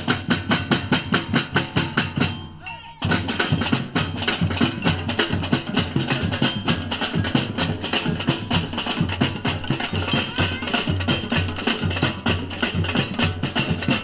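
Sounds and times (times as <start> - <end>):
samba drum ensemble: 0.0 - 14.0.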